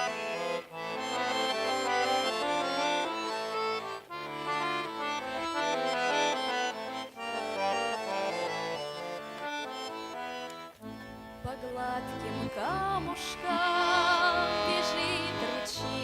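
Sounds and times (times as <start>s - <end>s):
accordion playing folk tune: 0.0s - 16.0s.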